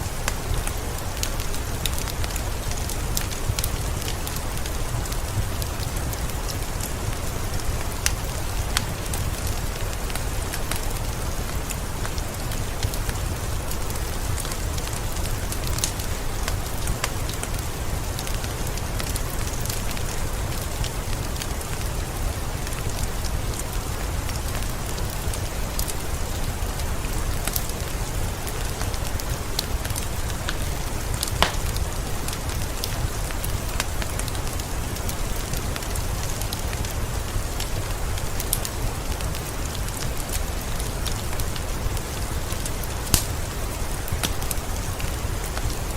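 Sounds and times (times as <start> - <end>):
heavy rain hissing: 0.0 - 45.9
raindrops ticking close by: 0.0 - 45.9.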